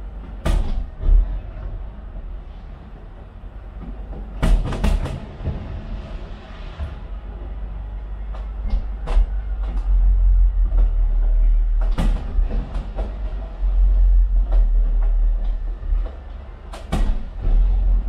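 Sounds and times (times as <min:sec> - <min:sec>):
distant fireworks rumble: 0:00.0 - 0:18.0.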